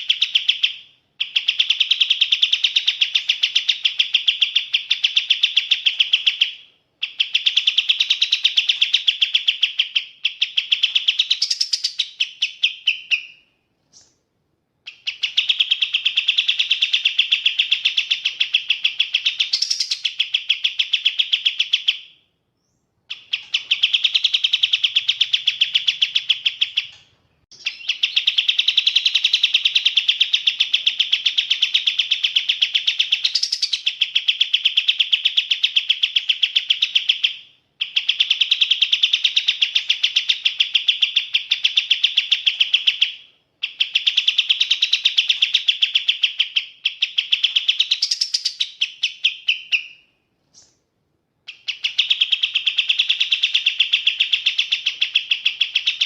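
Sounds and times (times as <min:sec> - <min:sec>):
bird singing fast repeated notes: 0:00.0 - 0:14.2, 0:14.8 - 0:50.8, 0:51.5 - 0:56.0.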